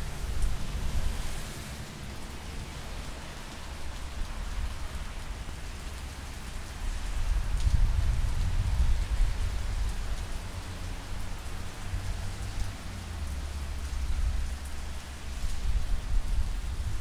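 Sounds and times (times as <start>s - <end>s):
rain on pavement: 0.0s - 17.0s.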